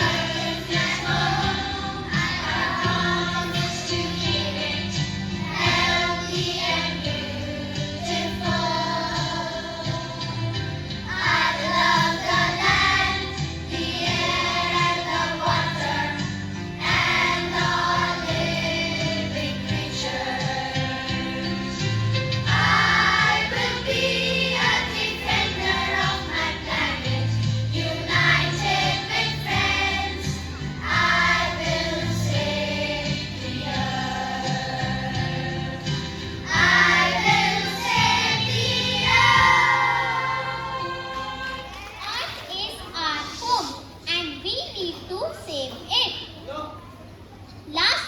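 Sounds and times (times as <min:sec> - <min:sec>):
group of voices singing: 0:00.0 - 0:41.9.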